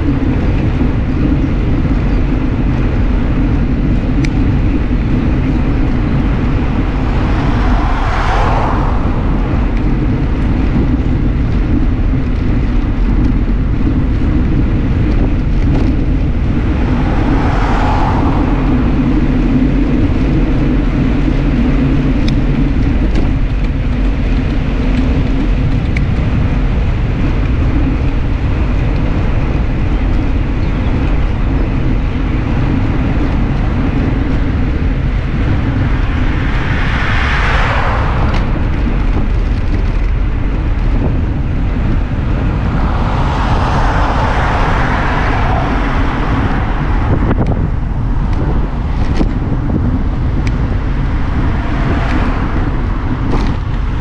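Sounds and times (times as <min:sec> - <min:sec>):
bicycle tyre hum: 0:00.0 - 0:54.0
wind rush on microphone: 0:00.0 - 0:54.0
motor vehicle passing whoosh: 0:02.7 - 0:24.8, 0:32.2 - 0:54.0.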